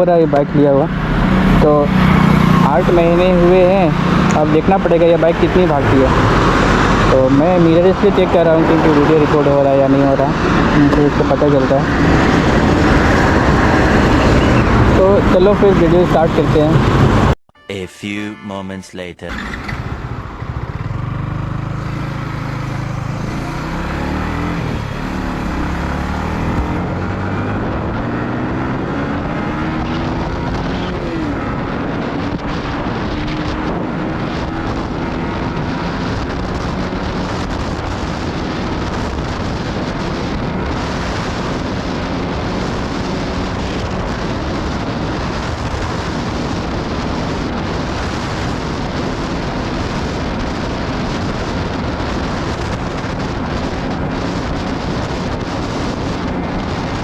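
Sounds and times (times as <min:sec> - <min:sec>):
wind rushing over microphone: 0:00.0 - 0:17.4, 0:19.7 - 0:57.0
motorcycle engine accelerating: 0:00.4 - 0:17.4, 0:19.3 - 0:57.0.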